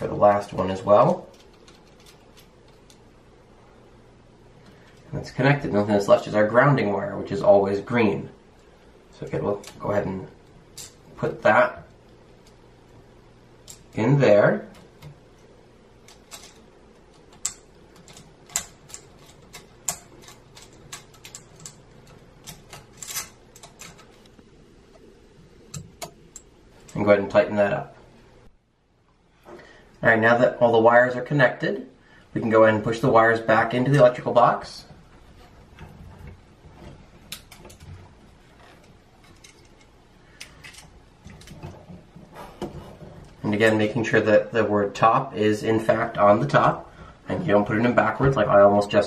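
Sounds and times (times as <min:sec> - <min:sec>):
electrical wires rustling: 0:00.0 - 0:49.0.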